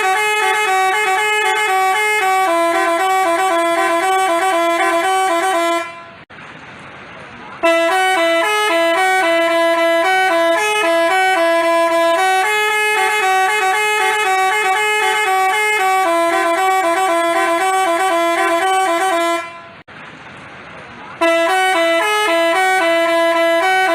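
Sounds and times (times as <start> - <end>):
multi-tone bus horn melody: 0.0 - 6.3, 7.6 - 19.9, 21.2 - 23.9.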